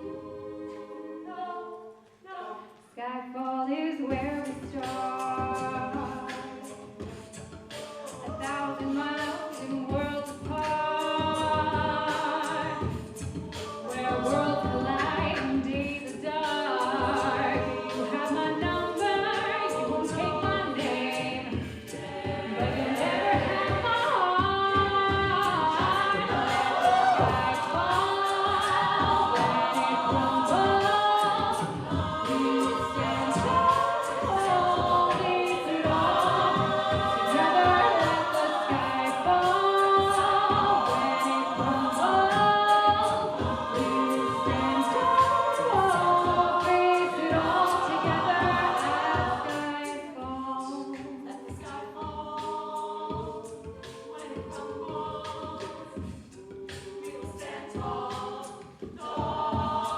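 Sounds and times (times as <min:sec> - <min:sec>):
a cappella group singing harmony: 0:00.0 - 0:59.9.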